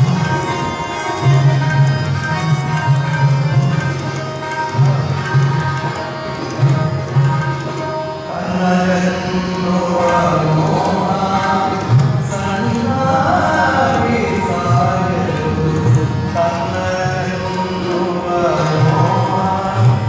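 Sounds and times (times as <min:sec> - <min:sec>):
tanpura drone: 0:00.0 - 0:20.0.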